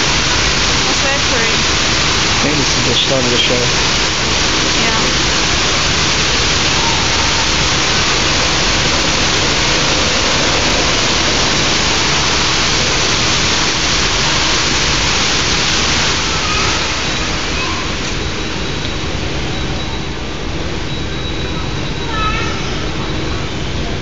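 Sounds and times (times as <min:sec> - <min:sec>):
fountain water splashing: 0:00.0 - 0:20.5.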